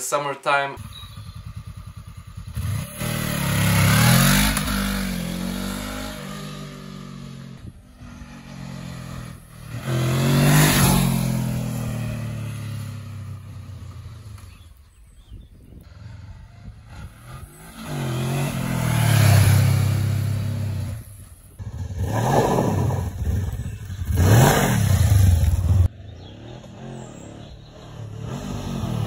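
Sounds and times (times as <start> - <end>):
motorcycle accelerating past: 0.8 - 14.8, 15.8 - 29.0.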